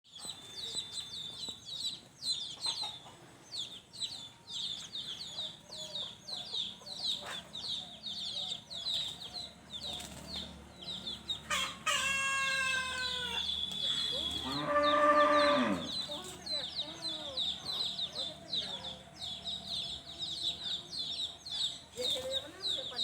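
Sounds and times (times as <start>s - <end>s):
chicks peeping: 0.1s - 23.0s.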